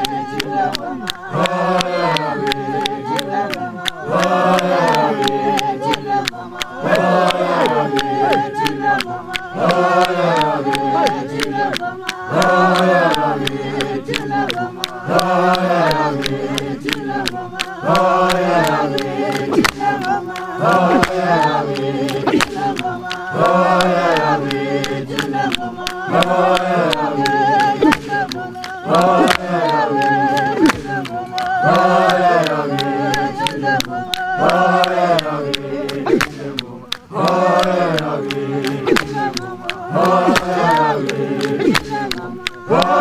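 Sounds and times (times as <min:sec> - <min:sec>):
choir singing: 0:00.0 - 0:43.0.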